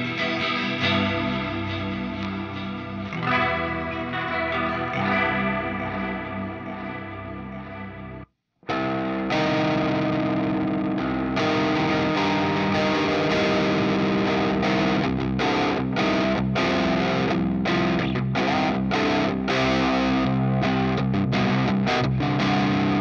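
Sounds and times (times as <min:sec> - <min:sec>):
distorted electric guitar riff: 0:00.0 - 0:23.0.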